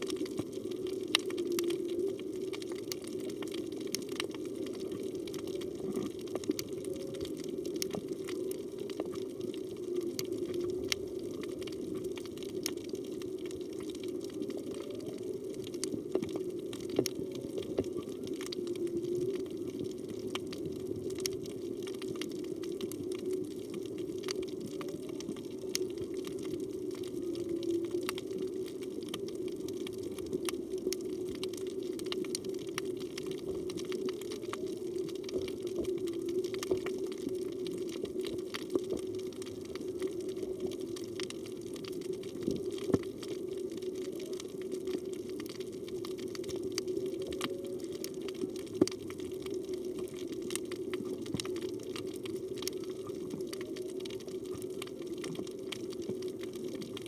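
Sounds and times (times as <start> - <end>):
crackle of sharp clicks: 0.0 - 57.0
low hum of water: 0.0 - 57.0.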